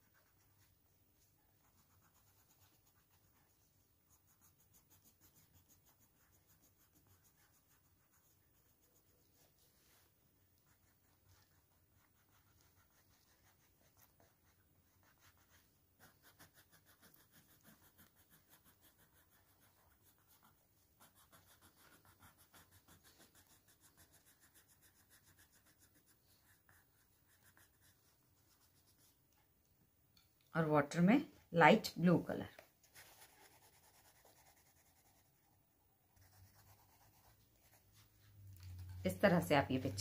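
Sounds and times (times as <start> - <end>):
pencil scratching on paper: 1.6 - 29.1, 32.4 - 35.5, 36.1 - 38.2.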